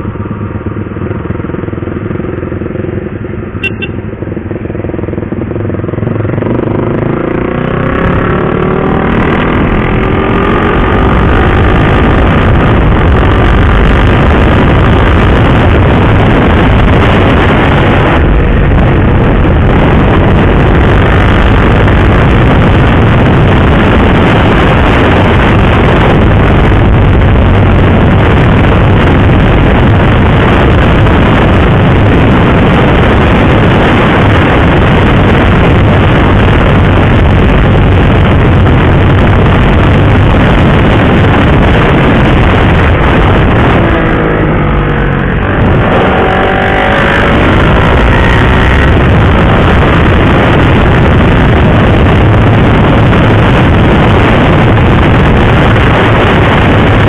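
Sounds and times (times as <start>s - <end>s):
motorcycle engine: 0.0s - 57.0s
wind rush on microphone: 0.0s - 57.0s.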